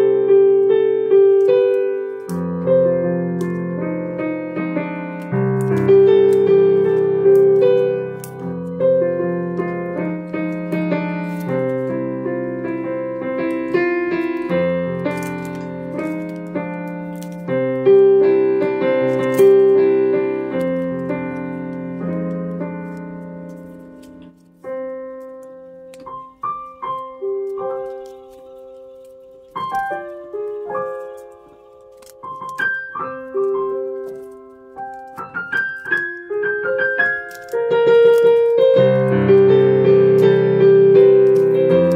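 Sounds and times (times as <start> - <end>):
gentle piano music: 0.0 - 41.9.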